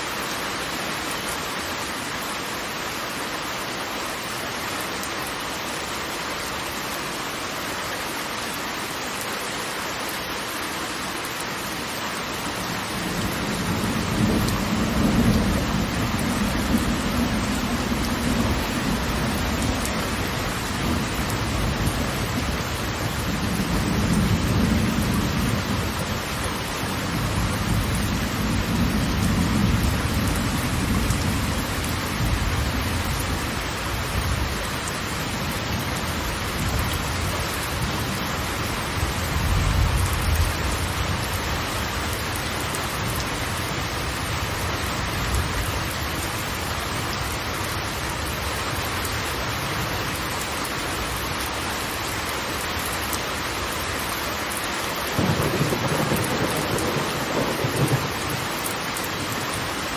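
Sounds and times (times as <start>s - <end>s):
large waterfall rushing: 0.0s - 39.4s, 40.0s - 59.9s.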